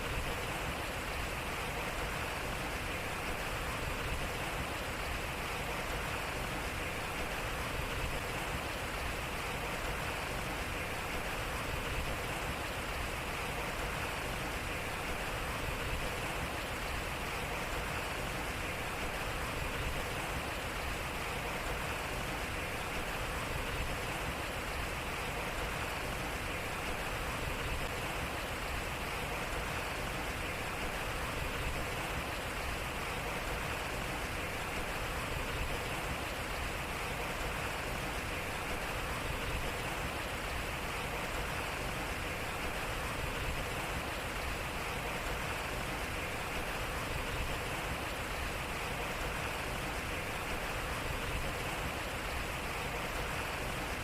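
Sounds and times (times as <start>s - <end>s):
water splashing over water wheel: 0.0s - 54.0s.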